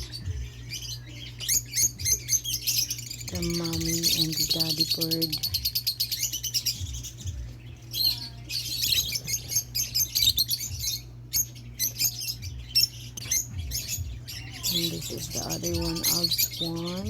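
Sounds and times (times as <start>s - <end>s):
lovebirds chirping: 0.0s - 17.0s
steady low hum: 0.0s - 17.0s.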